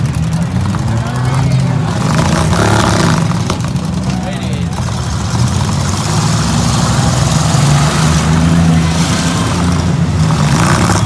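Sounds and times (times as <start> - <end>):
engines running and revving: 0.0 - 11.0.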